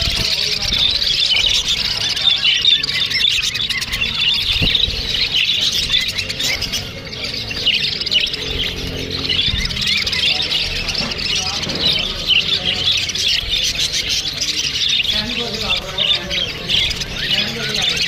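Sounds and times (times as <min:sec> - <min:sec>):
budgerigars chirping and warbling: 0:00.0 - 0:18.0.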